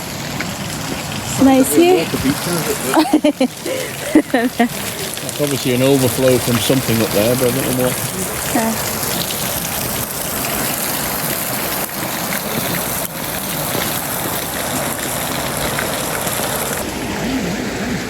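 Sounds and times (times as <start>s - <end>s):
water pouring into a stream: 0.0s - 17.0s.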